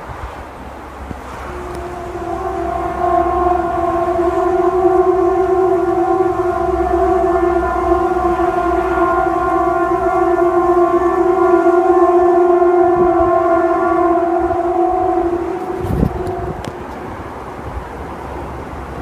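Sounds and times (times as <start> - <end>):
trumpet-like droning tone: 0.8 - 19.0.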